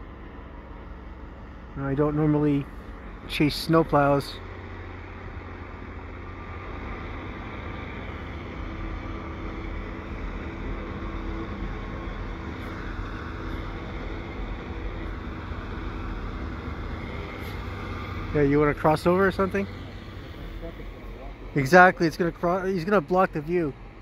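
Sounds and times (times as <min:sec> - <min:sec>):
heavy diesel engines droning: 0:00.0 - 0:24.0.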